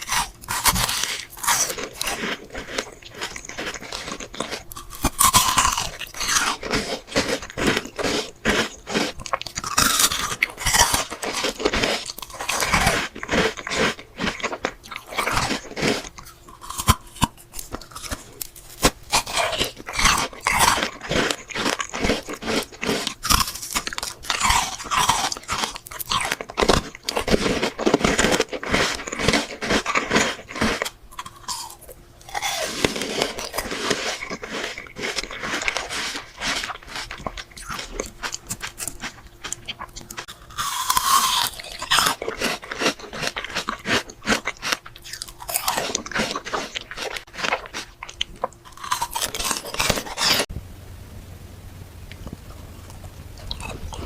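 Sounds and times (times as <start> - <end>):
crunching fruit: 0.0 - 54.0.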